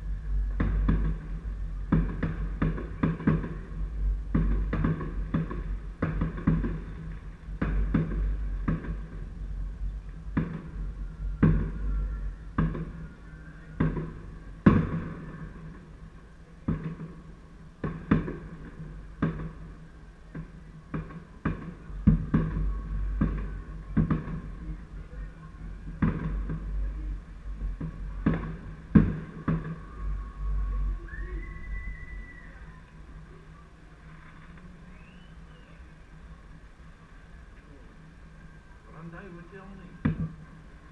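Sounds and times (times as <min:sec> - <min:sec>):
distant fireworks bangs: 0:00.0 - 0:33.6, 0:38.2 - 0:40.9
low rumble: 0:00.0 - 0:40.9.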